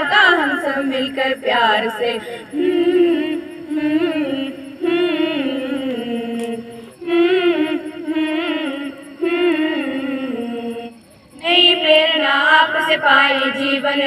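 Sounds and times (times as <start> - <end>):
voices singing with vibrato: 0.0 - 14.0.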